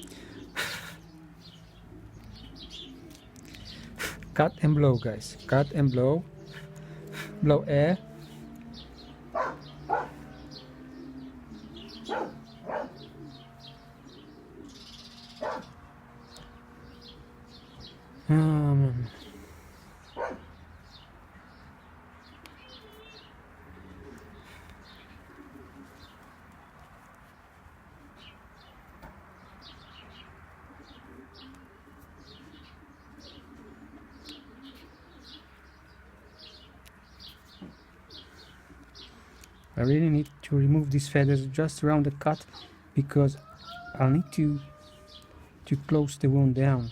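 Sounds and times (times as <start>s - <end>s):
pigeons cooing: 0.0s - 40.2s, 41.0s - 46.9s
birds chirping: 0.0s - 46.9s.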